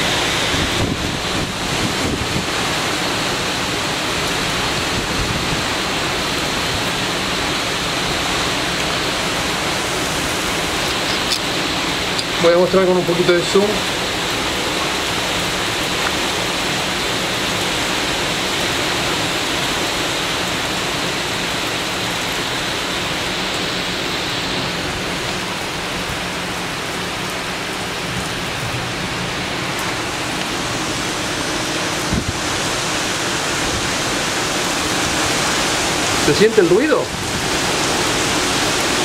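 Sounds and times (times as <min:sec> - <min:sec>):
heavy rain pouring: 0:00.0 - 0:39.0
strong wind through trees: 0:00.0 - 0:39.0.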